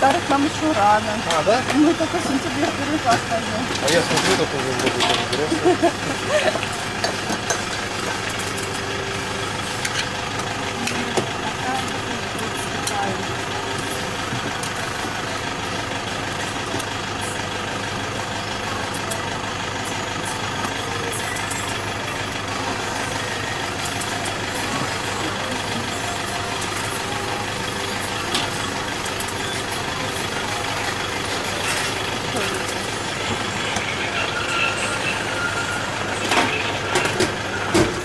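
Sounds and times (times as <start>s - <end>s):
motor idling drone: 0.0s - 38.0s.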